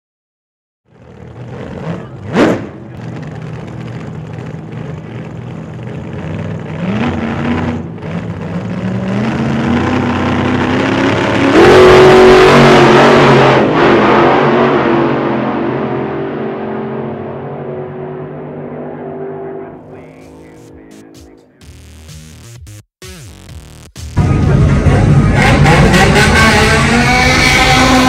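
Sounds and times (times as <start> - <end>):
car engine revving: 0.9 - 28.0.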